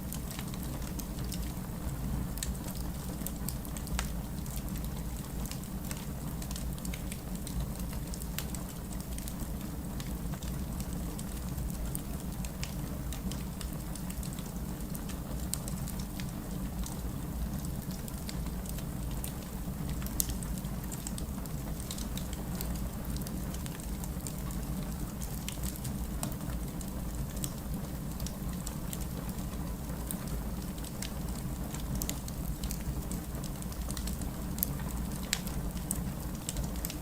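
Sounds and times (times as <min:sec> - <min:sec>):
rain hiss and rumble: 0:00.0 - 0:37.0
fireplace crackling: 0:00.1 - 0:37.0.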